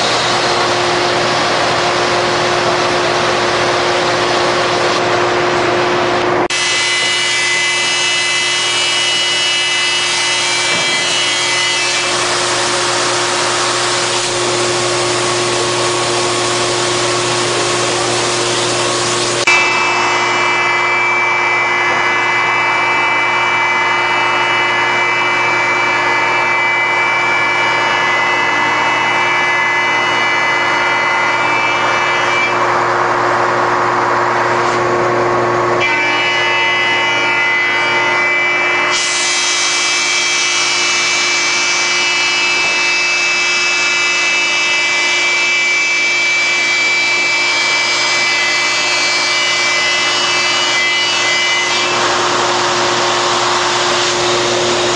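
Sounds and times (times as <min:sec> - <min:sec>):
sander motor hum and whine: 0:00.0 - 0:54.9.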